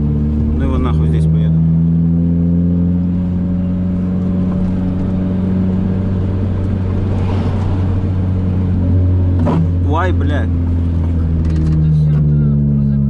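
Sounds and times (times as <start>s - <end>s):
car engine and exhaust droning: 0.0s - 13.0s
road noise on rough surface: 0.0s - 13.0s.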